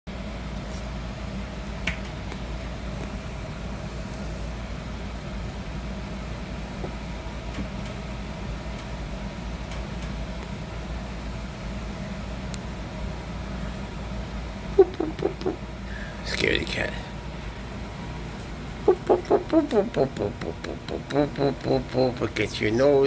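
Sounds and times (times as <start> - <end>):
low mechanical hum: 0.1 - 23.0.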